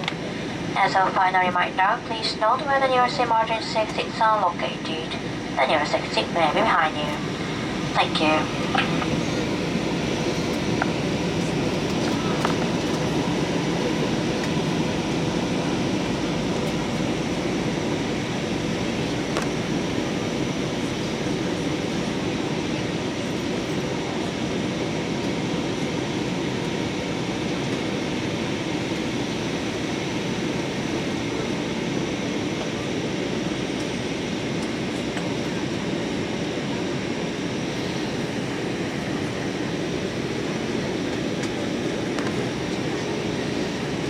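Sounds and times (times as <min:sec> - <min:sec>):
airliner cabin engine rush: 0:00.0 - 0:44.0.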